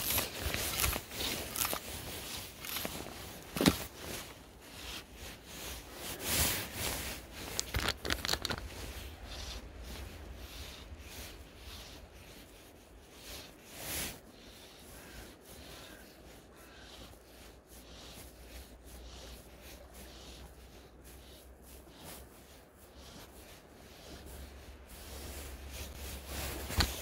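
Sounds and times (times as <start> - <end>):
clothing rubbing: 0.0 - 12.2, 16.8 - 27.0
fly line rustling and rasping: 0.0 - 27.0.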